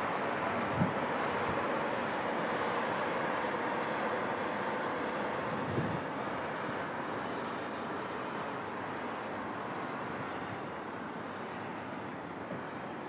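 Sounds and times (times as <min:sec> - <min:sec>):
distant city hum: 0:00.0 - 0:13.0.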